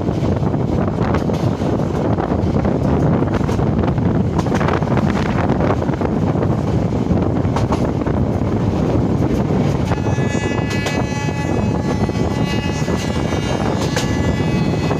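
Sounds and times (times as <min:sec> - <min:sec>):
train rumbling on track: 0:00.0 - 0:14.9
wind buffeting microphone: 0:00.0 - 0:14.9.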